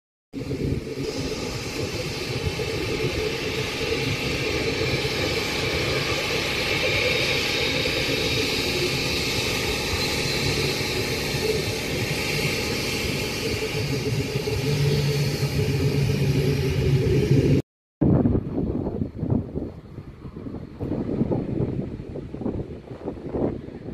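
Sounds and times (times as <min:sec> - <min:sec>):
jet engines whining and rumbling: 0:00.4 - 0:23.9.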